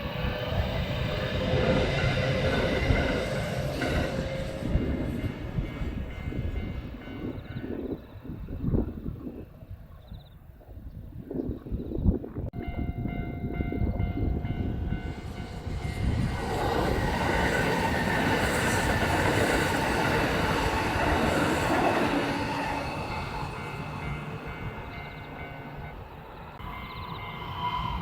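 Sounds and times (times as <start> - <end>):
electric train passing: 0.0 - 9.6, 12.6 - 28.0
rail noise: 0.0 - 9.9, 12.2 - 28.0.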